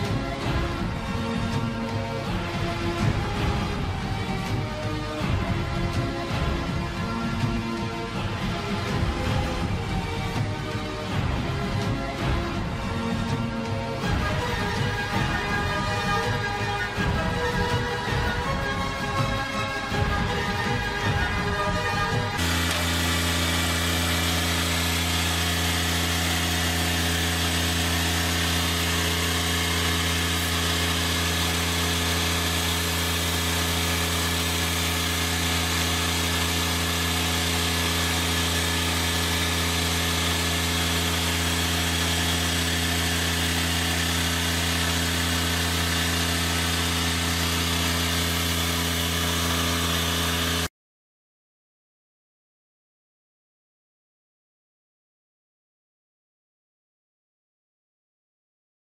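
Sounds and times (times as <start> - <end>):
sand topdresser mechanical drone: 0.0 - 50.7.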